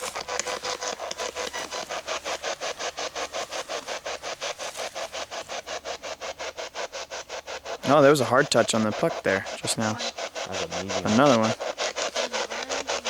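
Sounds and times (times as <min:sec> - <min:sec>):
radio static rapid chopping: 0:00.0 - 0:13.0.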